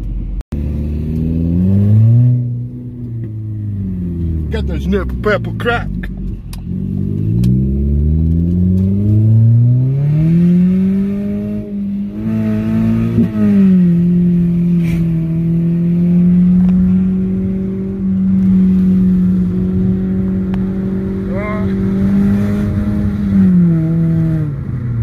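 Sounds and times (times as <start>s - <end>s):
car engine accelerating and droning: 0.0s - 25.0s.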